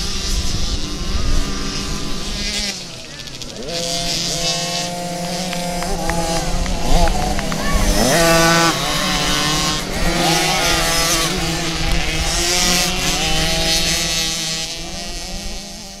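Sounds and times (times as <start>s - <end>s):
motocross bikes revving past: 0.0s - 16.0s.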